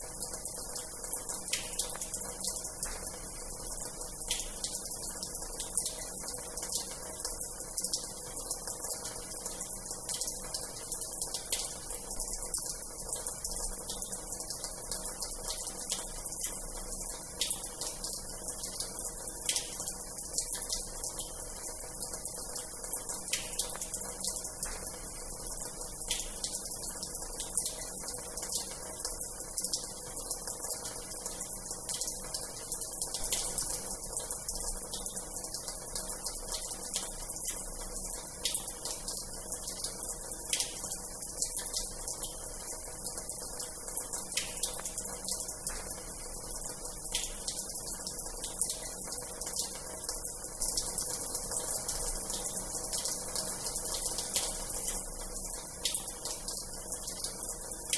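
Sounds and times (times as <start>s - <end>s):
water running from a tap: 0.0s - 57.9s.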